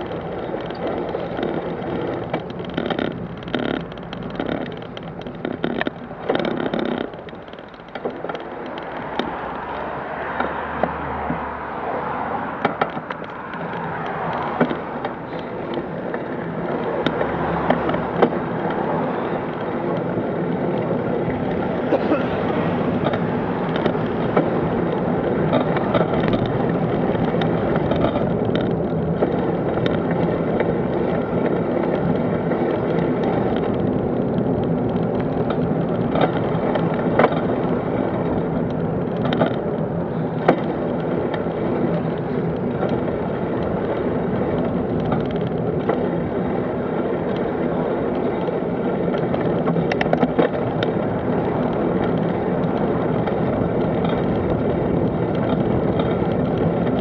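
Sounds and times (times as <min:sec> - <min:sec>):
cars passing by: 0:00.0 - 0:57.0
tyres on tarmac: 0:00.0 - 0:57.0
wheels rattling over rough track: 0:00.0 - 0:57.0.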